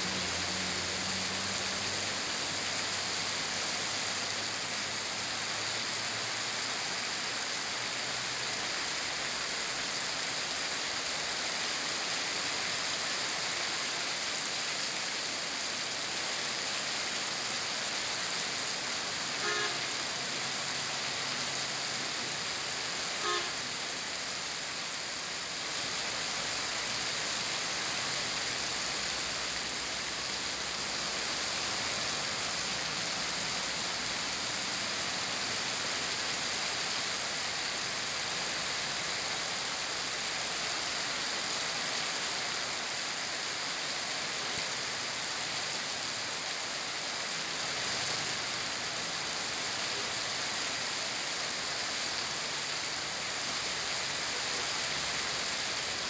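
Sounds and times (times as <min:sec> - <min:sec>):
heavy rain on flooded street: 0:00.0 - 0:56.0.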